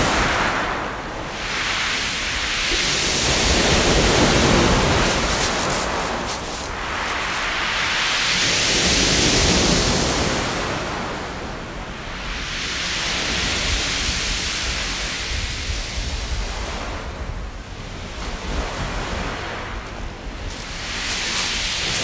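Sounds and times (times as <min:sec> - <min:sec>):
waves rolling pebbles: 0:00.0 - 0:22.0.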